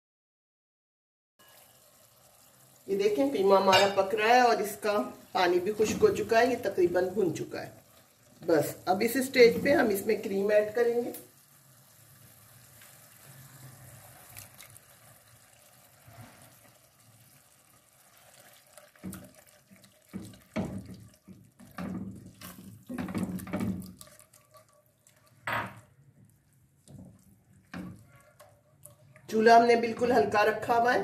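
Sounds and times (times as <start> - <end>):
meat sizzling: 1.4 - 29.3
spatula stirring in a pan: 1.4 - 30.9.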